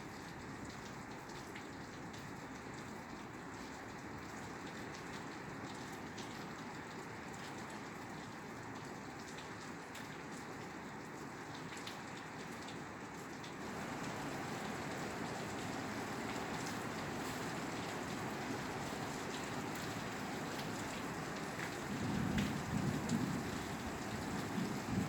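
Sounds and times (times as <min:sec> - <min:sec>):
rain falling on a roof: 0:00.0 - 0:25.0.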